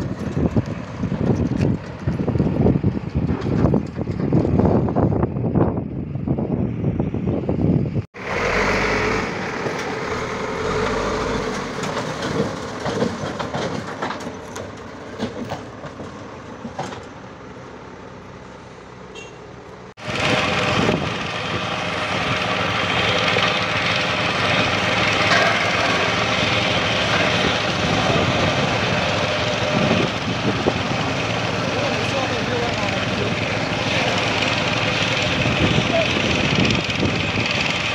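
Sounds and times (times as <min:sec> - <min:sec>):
backhoe diesel engine running: 0:00.0 - 0:37.9.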